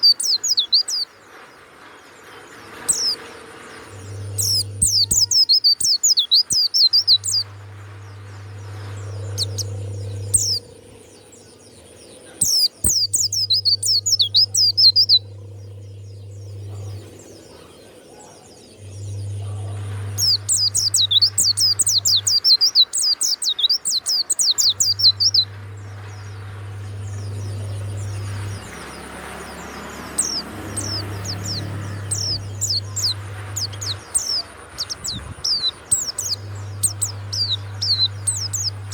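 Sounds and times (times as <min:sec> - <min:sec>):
bird twittering high-pitched: 0:00.0 - 0:01.2, 0:02.7 - 0:38.9
low hum: 0:00.0 - 0:38.9.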